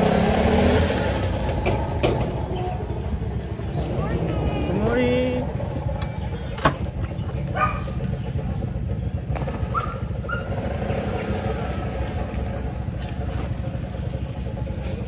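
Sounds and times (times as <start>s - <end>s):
street noise: 0.0s - 15.0s
vehicle engine idling: 0.0s - 15.0s.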